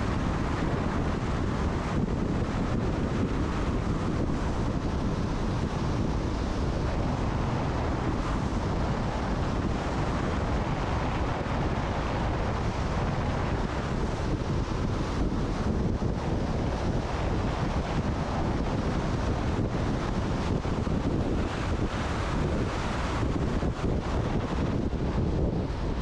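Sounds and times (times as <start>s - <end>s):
low road noise: 0.0s - 26.0s
wind rushing over microphone: 0.0s - 26.0s.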